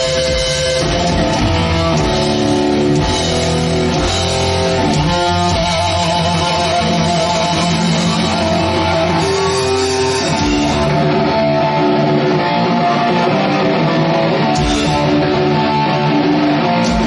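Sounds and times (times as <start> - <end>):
electric guitar riffing: 0.0 - 17.0
heavy metal band playing live: 0.0 - 17.0.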